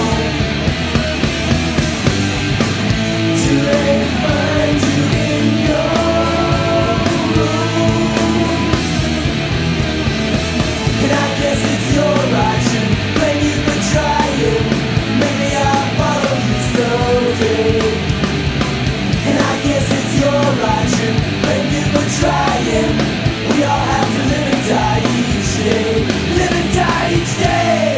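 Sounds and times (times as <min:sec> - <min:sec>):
punk rock band music: 0:00.0 - 0:27.9.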